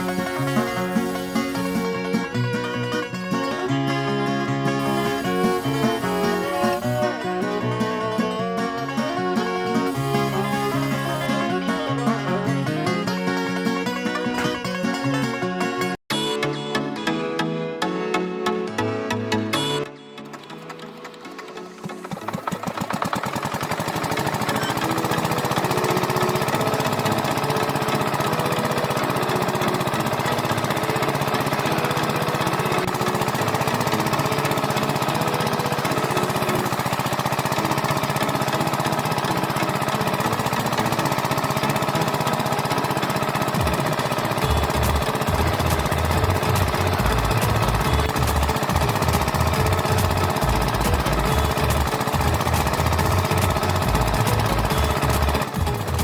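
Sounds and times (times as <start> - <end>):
small machine rattling: 0.0 - 16.0, 19.6 - 56.0.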